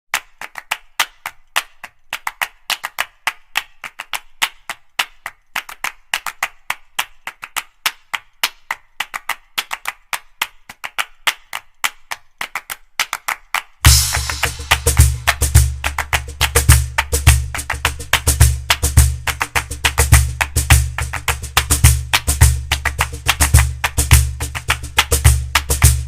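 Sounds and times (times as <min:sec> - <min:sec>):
hand-clap percussion: 0:00.1 - 0:26.0.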